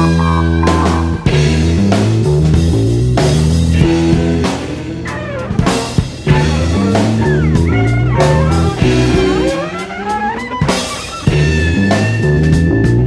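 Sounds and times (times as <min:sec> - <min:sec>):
bass guitar: 0:00.0 - 0:13.0
drum kit: 0:00.0 - 0:13.0
electric guitar bending lead notes: 0:00.0 - 0:13.0.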